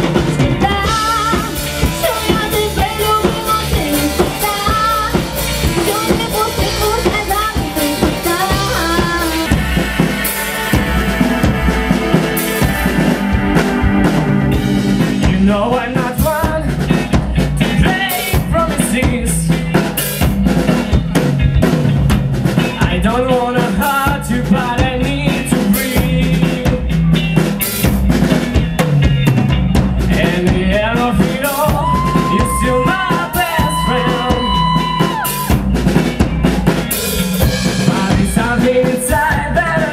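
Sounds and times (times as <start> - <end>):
drum kit beat: 0.0 - 39.9
live rock band: 0.0 - 39.9.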